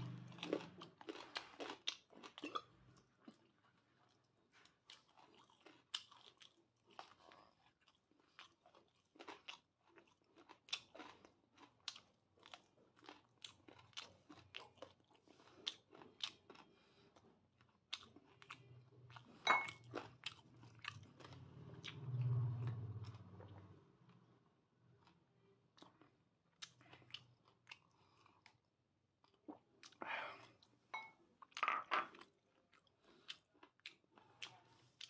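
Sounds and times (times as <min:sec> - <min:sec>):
chewing crunchy food: 0:00.0 - 0:35.0.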